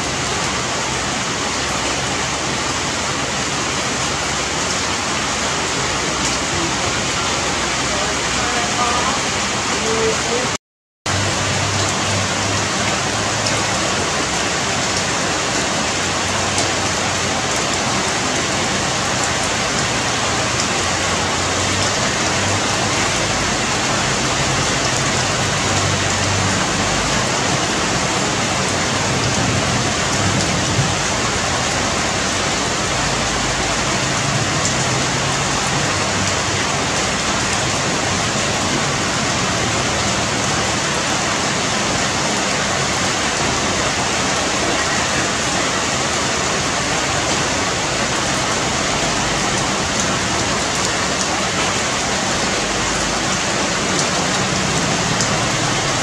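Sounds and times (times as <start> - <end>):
rain on leaves: 0.0 - 56.0.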